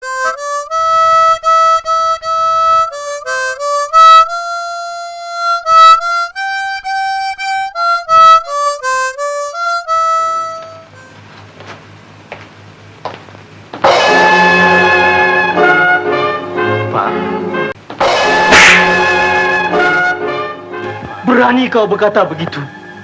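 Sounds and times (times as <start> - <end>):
harmonica melody: 0.0 - 11.4, 13.8 - 23.0.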